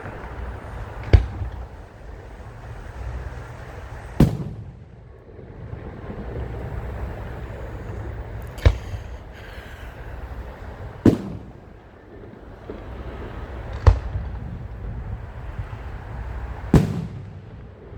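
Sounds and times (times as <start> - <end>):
fireworks bangs: 0.0 - 17.9
low rumble of fireworks display: 0.0 - 17.9.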